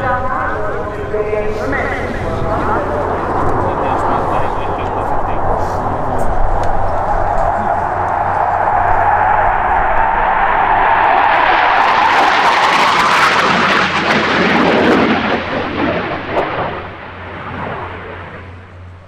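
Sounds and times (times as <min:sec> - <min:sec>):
jet passing with crackle: 0:00.0 - 0:19.0.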